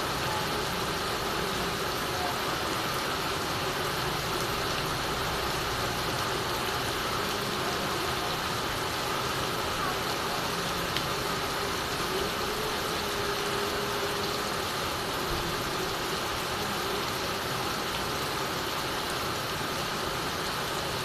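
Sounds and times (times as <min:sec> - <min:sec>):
heavy rain on a tiled roof: 0:00.0 - 0:21.0.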